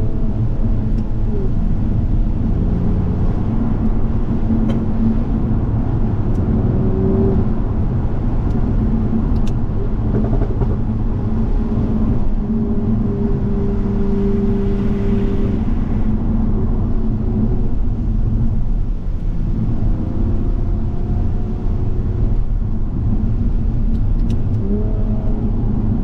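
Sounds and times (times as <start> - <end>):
car engine drone: 0.0 - 26.0.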